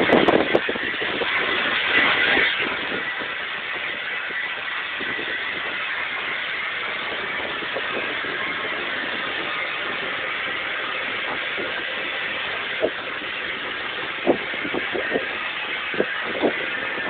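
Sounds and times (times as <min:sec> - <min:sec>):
steam locomotive hiss and rumble: 0:00.0 - 0:17.0.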